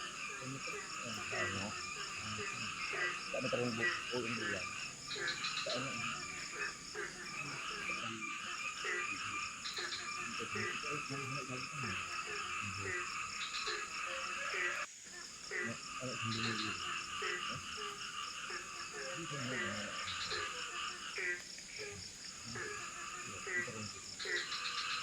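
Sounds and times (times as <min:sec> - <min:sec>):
chorus of frogs croaking: 0:00.0 - 0:25.0.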